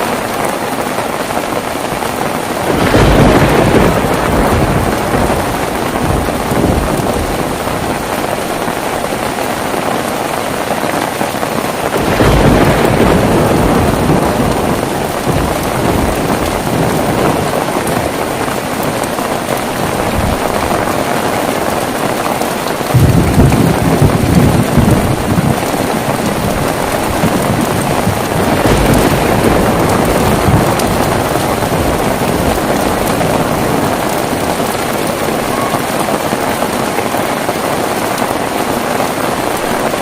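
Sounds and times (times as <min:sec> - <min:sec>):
heavy rain falling: 0:00.0 - 0:40.0
thunder rolling: 0:01.3 - 0:40.0.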